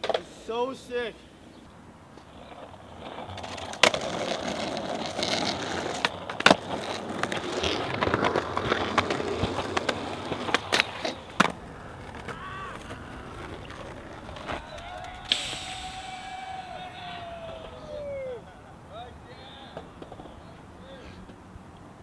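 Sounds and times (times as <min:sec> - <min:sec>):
skateboard clacks: 0:00.0 - 0:00.3, 0:02.1 - 0:18.5, 0:19.1 - 0:22.0
skateboard wheels rolling on concrete: 0:00.0 - 0:22.0.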